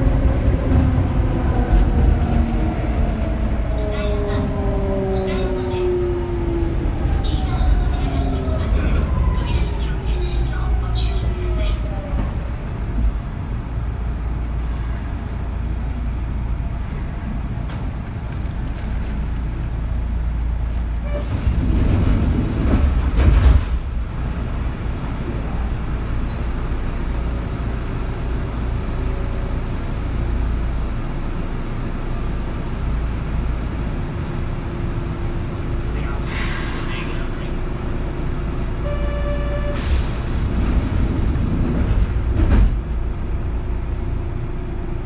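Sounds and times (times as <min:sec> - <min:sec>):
electric train wheels rumbling: 0:00.0 - 0:38.9.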